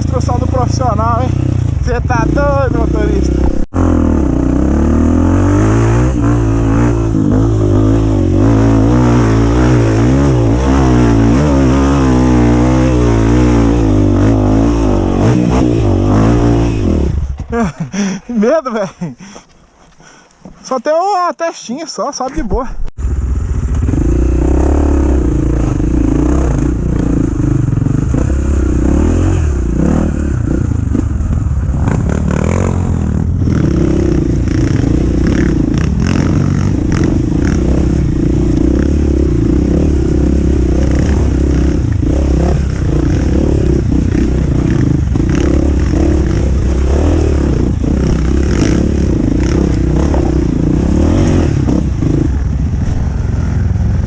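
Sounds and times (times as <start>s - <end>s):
dirt bike engine running: 0.0s - 18.6s, 23.0s - 54.0s.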